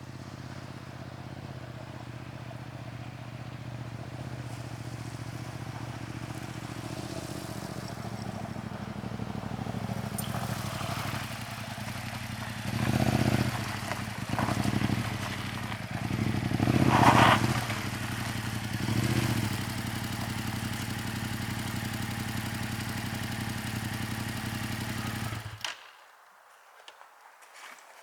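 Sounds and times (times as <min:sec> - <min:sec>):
motorcycle engine idling and revving: 0:00.0 - 0:25.7.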